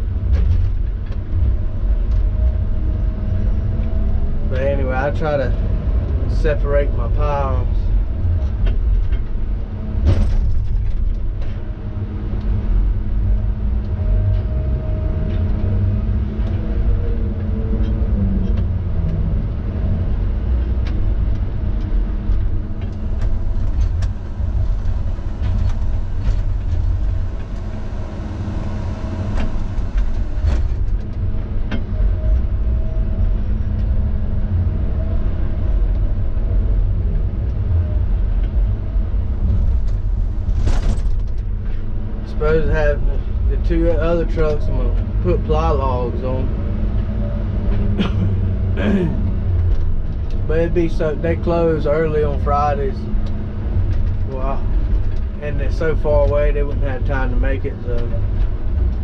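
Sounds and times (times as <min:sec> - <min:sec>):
diesel engine and hydraulics rumble: 0:00.0 - 0:59.0.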